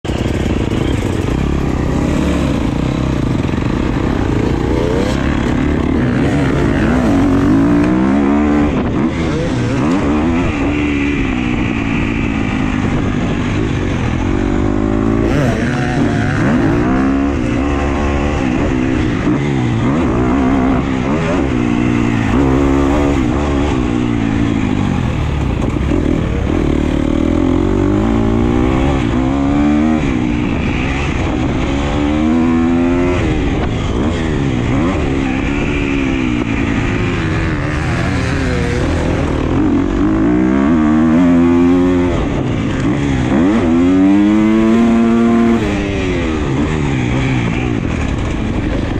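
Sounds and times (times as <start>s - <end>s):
motocross bike engine revving: 0.1s - 48.9s.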